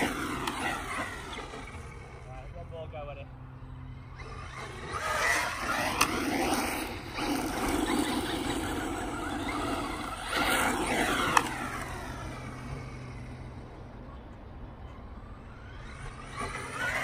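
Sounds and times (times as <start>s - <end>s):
electric toy car motor whining: 0.0s - 2.3s, 3.6s - 13.9s, 14.8s - 17.0s.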